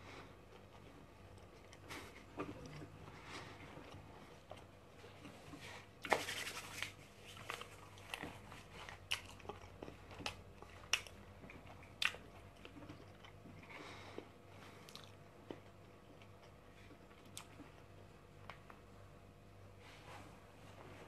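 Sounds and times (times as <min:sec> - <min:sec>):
person chewing food: 0:00.0 - 0:06.1, 0:07.2 - 0:18.8.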